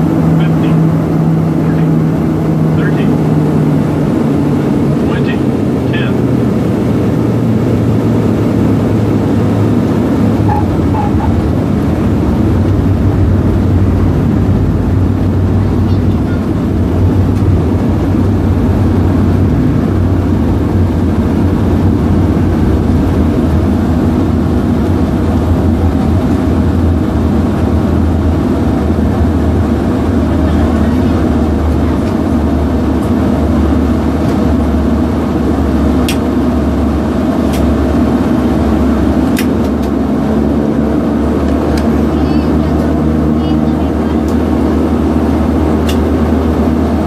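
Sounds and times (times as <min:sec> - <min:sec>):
turboprop engine drone in cabin: 0:00.0 - 0:47.0.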